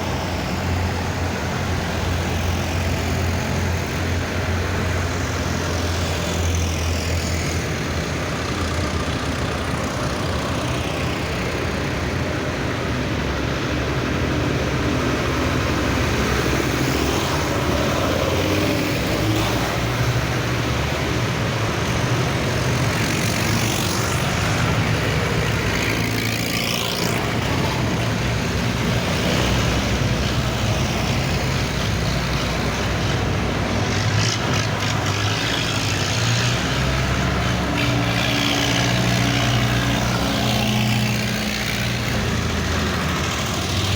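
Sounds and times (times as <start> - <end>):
tractor engines droning: 0.0 - 43.9.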